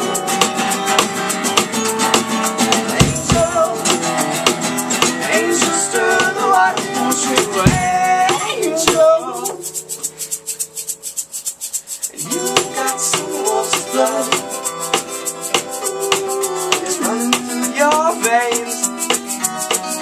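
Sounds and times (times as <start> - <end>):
live band playing: 0.0 - 20.0
shaker ticking rhythm: 0.0 - 20.0.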